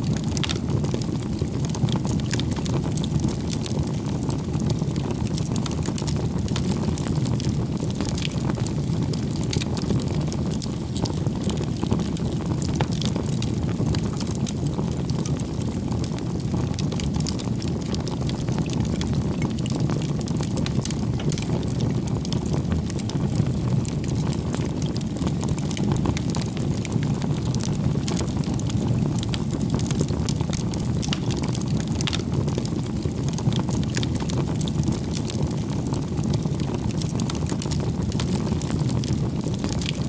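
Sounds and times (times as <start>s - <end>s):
campfire crackles and pops: 0.0s - 40.0s
steady low rush of fire: 0.0s - 40.0s.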